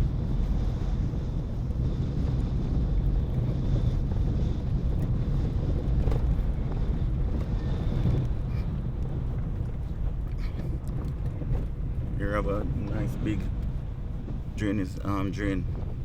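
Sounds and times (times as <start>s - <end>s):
car road and engine noise: 0.0s - 16.0s
wind buffeting microphone: 0.0s - 16.0s.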